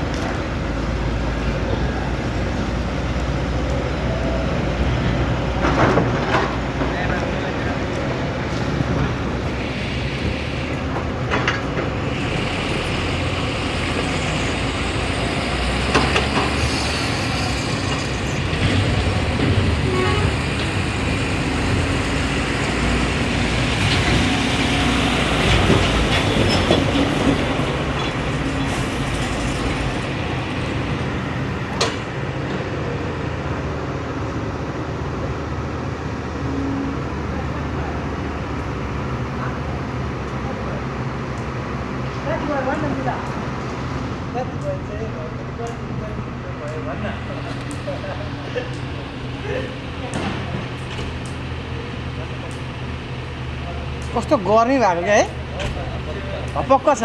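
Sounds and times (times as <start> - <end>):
excavator diesel engine under load: 0.0 - 57.0
hydraulics working: 0.0 - 57.0.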